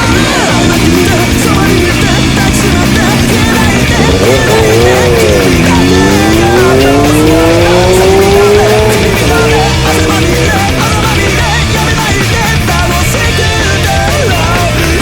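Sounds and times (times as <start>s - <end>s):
heavy rock music: 0.0s - 15.0s
motorcycle engine accelerating: 0.0s - 15.0s.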